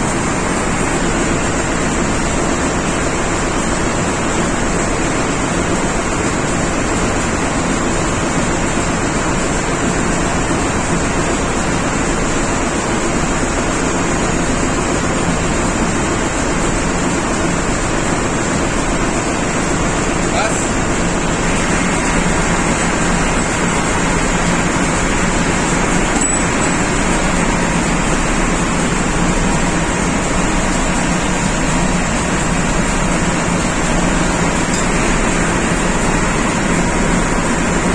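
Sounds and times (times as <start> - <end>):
diesel engine-room machinery noise: 0.0 - 37.9.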